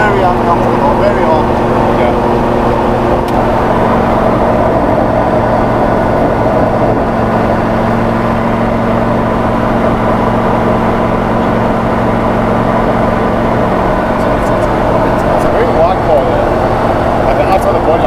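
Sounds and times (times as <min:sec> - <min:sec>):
car engine running inside cabin: 0:00.0 - 0:18.0.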